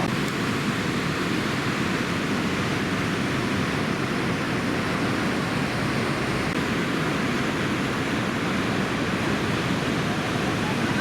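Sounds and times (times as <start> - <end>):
heavy surf breaking on a reef: 0.0 - 11.0.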